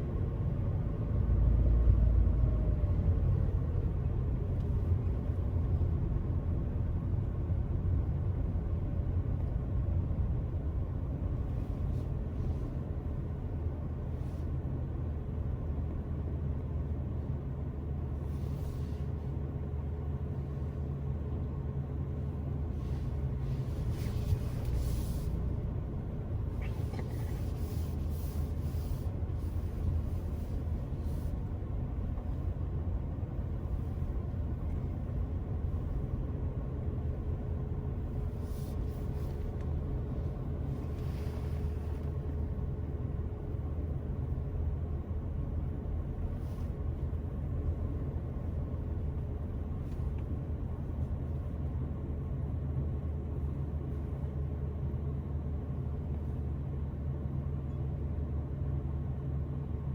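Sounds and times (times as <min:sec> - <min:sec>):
car engine and tyre rumble: 0:00.0 - 0:59.9
faint steady hum: 0:00.0 - 0:59.9.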